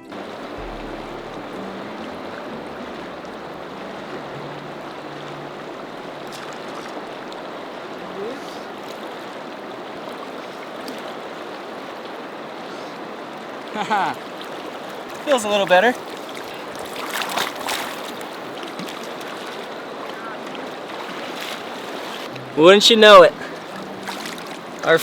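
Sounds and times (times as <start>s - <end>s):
river current rushing: 0.0s - 25.0s.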